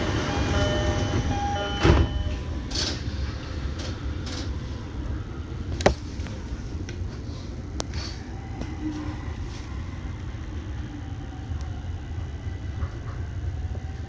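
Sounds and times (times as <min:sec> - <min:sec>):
commuter train rumbling: 0:00.0 - 0:14.0.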